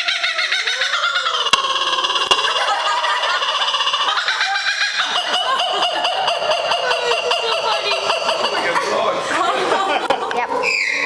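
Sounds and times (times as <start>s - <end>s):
bird calling harshly: 0.0s - 8.8s, 10.6s - 11.0s.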